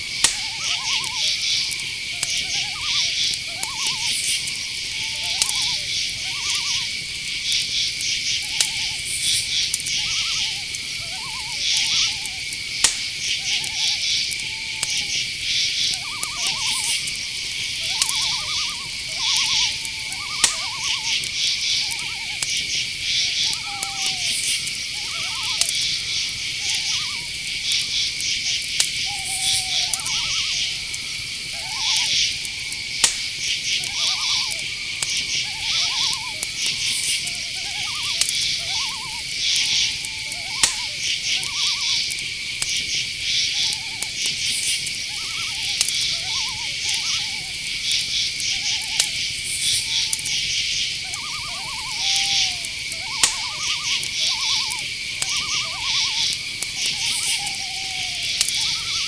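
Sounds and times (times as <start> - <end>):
crickets chirping: 0.0 - 59.0
crickets trilling: 0.0 - 59.0
owl hooting: 0.0 - 59.0.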